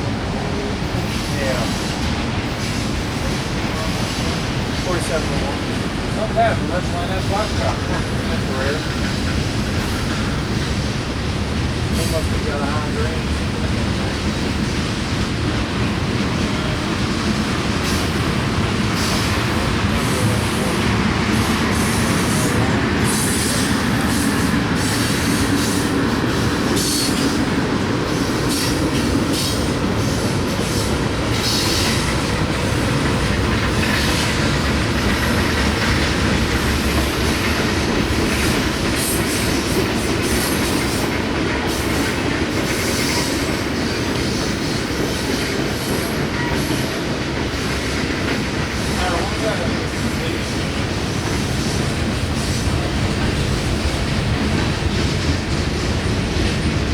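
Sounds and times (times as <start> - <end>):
freight train rumbling past: 0.0 - 56.9
wheels clicking on rails: 1.0 - 56.9.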